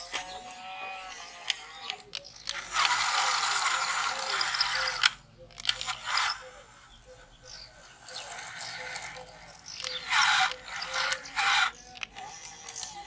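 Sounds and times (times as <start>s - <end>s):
toy motor and gears grinding: 0.0s - 13.0s.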